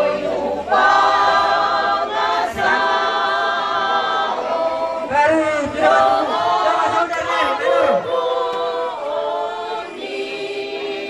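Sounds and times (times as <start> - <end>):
women singing unaccompanied: 0.0 - 11.0.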